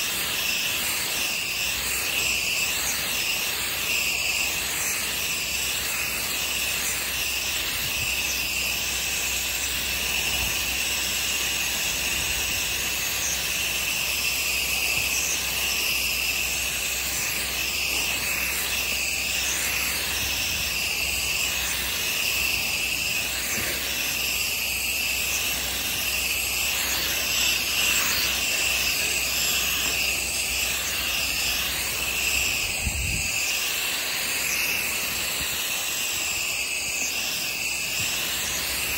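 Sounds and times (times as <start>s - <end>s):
pressure washer spraying wood: 0.0s - 38.9s.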